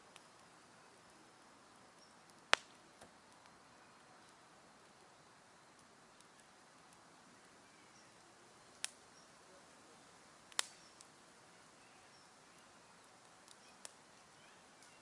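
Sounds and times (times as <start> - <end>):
campfire wood popping: 0.0 - 15.0
faint steady hiss: 0.0 - 15.0.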